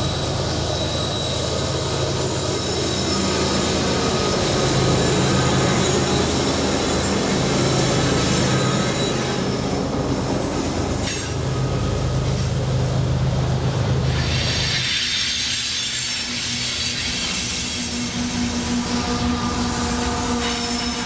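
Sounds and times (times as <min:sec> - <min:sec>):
diesel locomotive engine drone: 0:00.0 - 0:21.0
train wheels rumbling on rail: 0:00.0 - 0:21.0.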